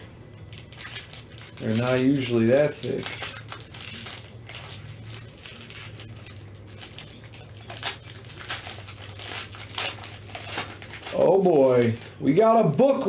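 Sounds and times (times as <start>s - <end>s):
low steady hum: 0.0s - 13.0s
plastic wrapping crinkling: 0.3s - 13.0s.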